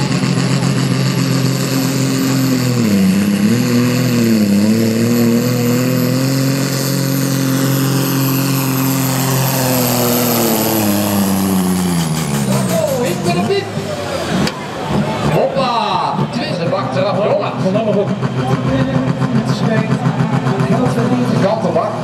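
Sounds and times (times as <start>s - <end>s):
tractor engine under heavy load: 0.0s - 22.0s.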